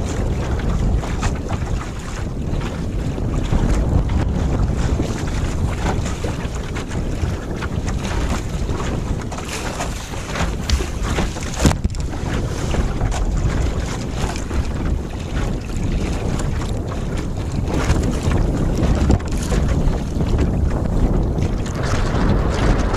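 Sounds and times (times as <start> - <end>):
water slapping against hull: 0.0 - 22.9
wind buffeting microphone: 0.0 - 22.9.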